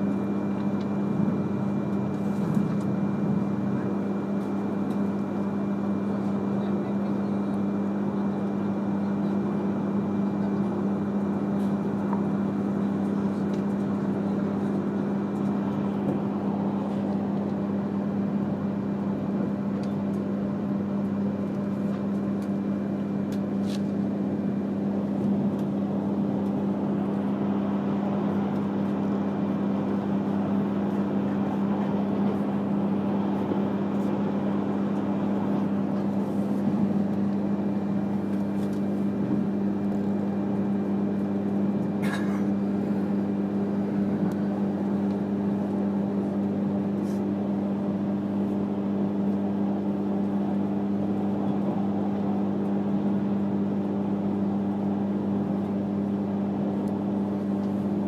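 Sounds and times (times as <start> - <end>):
train rolling rumble: 0.0 - 53.9
steady low hum: 0.0 - 58.0.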